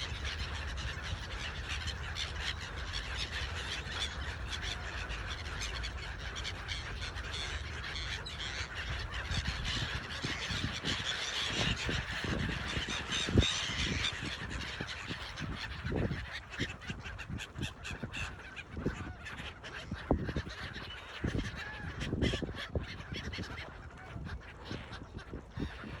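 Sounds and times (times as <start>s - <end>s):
gulls squawking: 0.0s - 26.0s.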